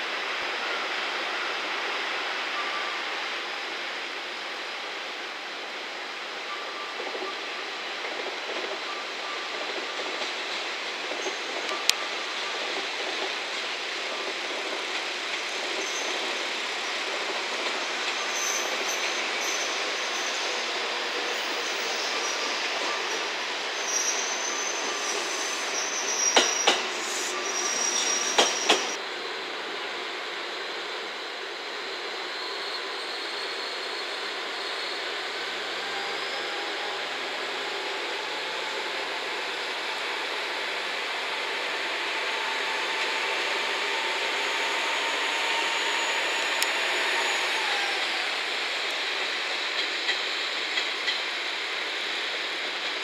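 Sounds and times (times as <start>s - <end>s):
diesel railcar running past: 0.0s - 53.0s.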